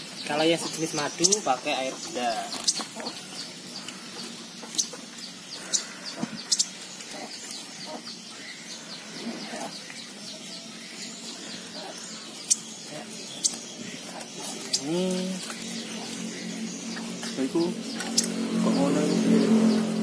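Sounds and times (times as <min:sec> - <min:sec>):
chickens clucking: 0:00.0 - 0:20.0
high bird chirps: 0:00.0 - 0:20.0.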